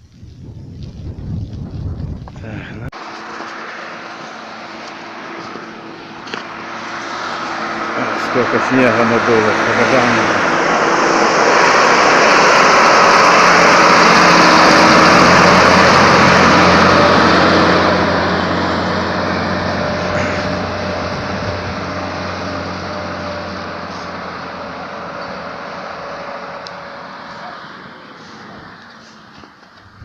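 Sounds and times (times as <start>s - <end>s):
vehicle engine running: 0.1s - 30.0s
loud rushing noise: 2.9s - 29.0s.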